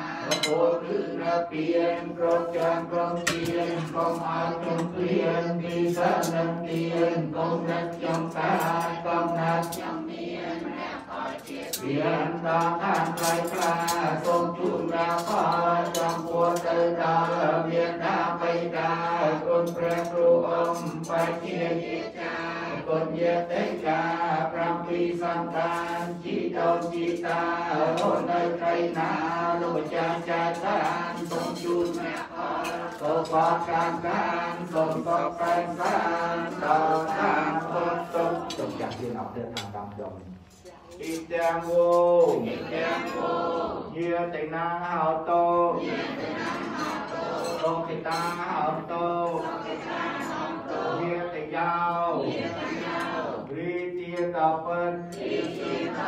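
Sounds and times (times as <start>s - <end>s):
monks chanting in unison: 0.0s - 56.0s.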